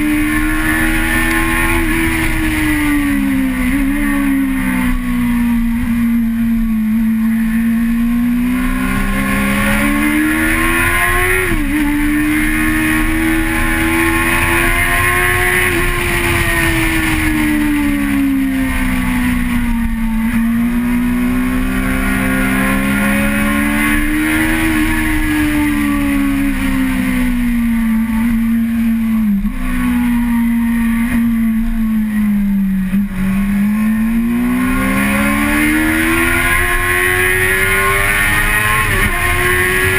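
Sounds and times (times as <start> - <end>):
vehicle engine revving: 0.0 - 39.9
wind and road noise: 0.0 - 39.9.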